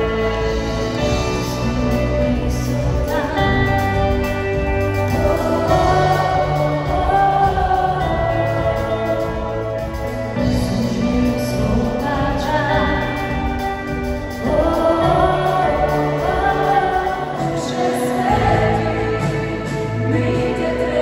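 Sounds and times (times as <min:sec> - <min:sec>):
live worship band playing: 0:00.0 - 0:21.0.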